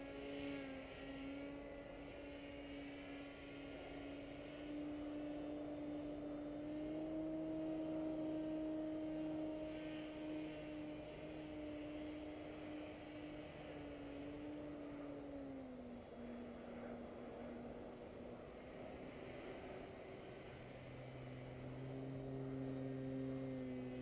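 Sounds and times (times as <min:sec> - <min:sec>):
distant paramotor engine droning: 0:00.0 - 0:24.0.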